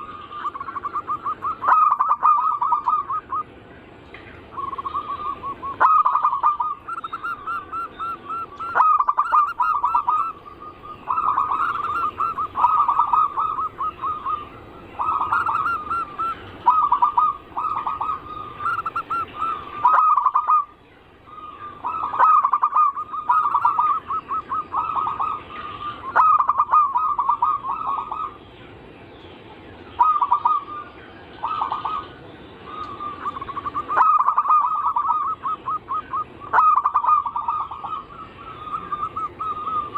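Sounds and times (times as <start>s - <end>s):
dove cooing with trilled coos: 0.0s - 3.6s, 4.5s - 28.4s, 29.8s - 39.9s.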